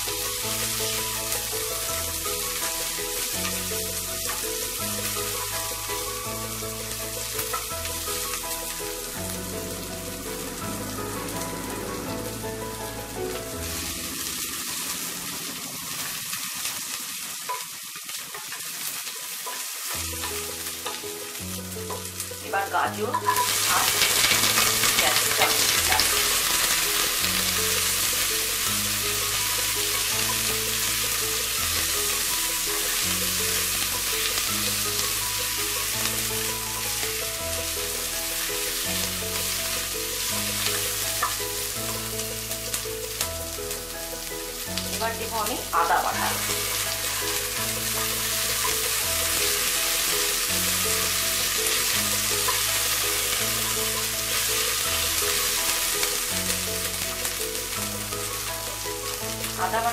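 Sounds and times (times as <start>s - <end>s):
food sizzling in hot oil: 0.0s - 59.9s
spatula stirring vegetables: 0.1s - 11.5s, 17.2s - 43.2s, 44.3s - 59.7s.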